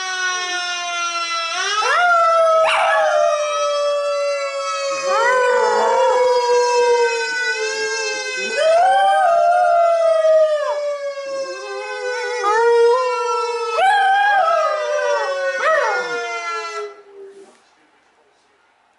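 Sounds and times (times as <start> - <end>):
fire truck siren wailing: 0.0 - 17.0
dog howling: 0.2 - 17.3.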